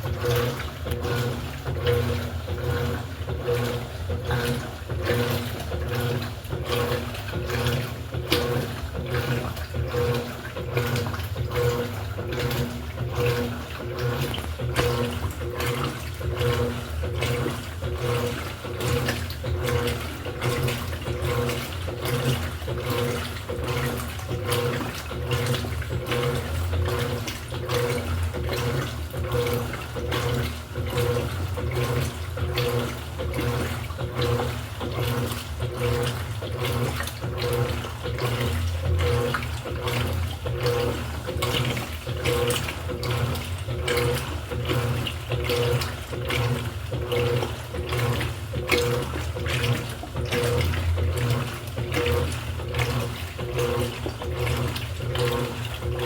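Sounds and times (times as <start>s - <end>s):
low motor hum: 0.0s - 56.0s
water churning in washing machine: 0.0s - 56.0s.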